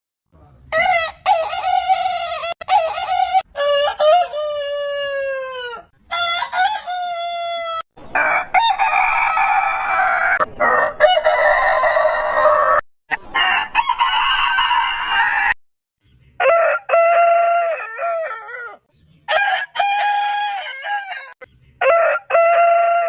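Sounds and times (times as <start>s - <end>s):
roosters crowing: 0.7s - 15.6s, 16.4s - 23.0s.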